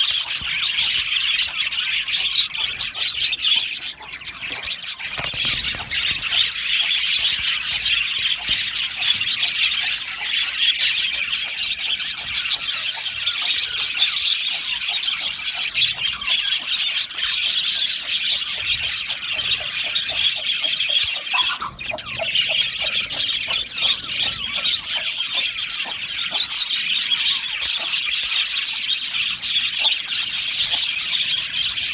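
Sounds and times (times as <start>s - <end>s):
budgerigars chattering and chirping: 0.0s - 31.9s.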